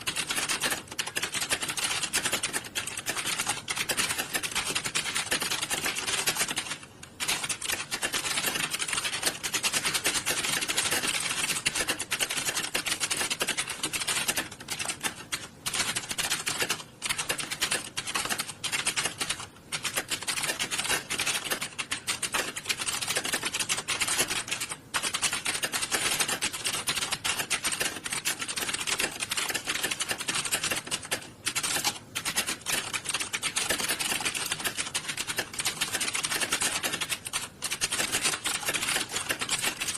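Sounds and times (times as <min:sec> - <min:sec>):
many keyboards typing: 0:00.0 - 0:39.9.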